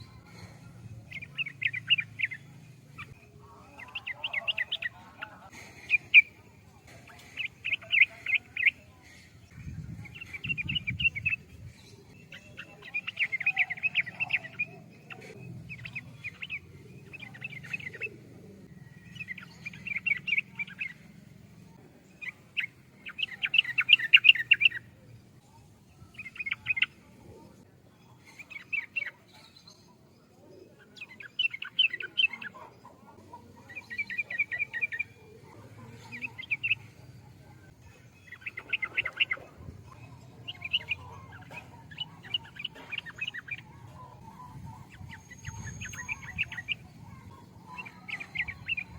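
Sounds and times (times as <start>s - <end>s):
bulbul singing: 0.0s - 48.9s.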